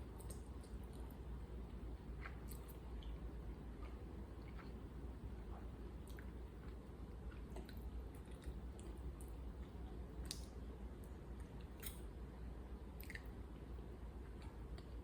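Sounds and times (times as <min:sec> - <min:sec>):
person chewing food: 0:00.0 - 0:12.1, 0:13.0 - 0:13.7
low background hum: 0:00.0 - 0:15.0.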